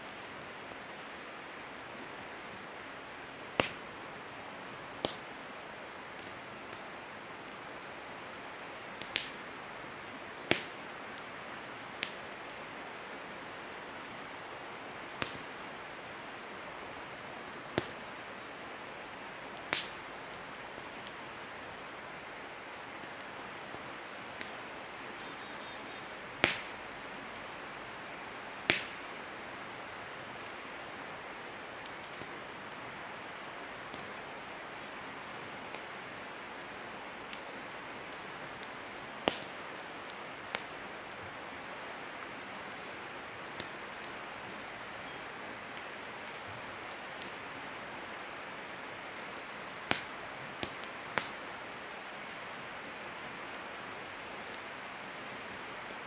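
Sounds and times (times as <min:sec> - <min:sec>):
campfire crackling and popping: 0:00.0 - 0:56.0
steady fire hiss: 0:00.0 - 0:56.0.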